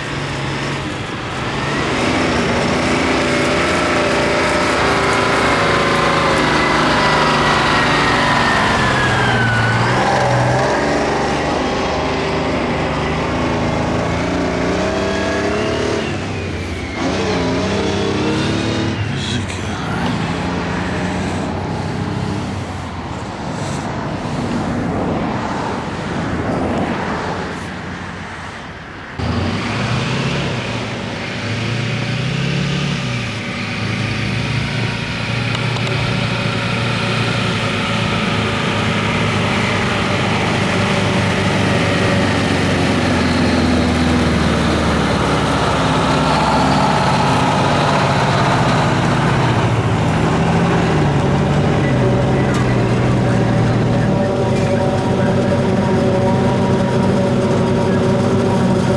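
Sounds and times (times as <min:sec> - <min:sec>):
diesel engines of farm machines: 0:00.0 - 0:58.9.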